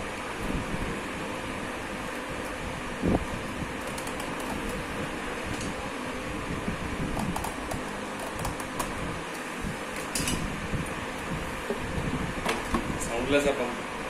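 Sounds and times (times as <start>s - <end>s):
steady fan whir: 0.0s - 14.0s.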